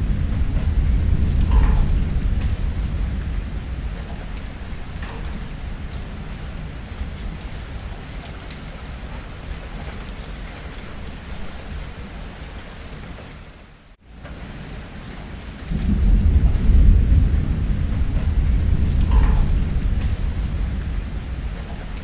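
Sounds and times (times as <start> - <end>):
deep thunder rumble: 0.0 - 12.0, 15.6 - 22.0
heavy rain: 0.0 - 22.0.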